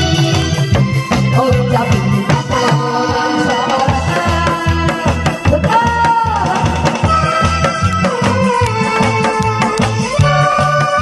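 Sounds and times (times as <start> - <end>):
upbeat trot music: 0.0 - 11.0.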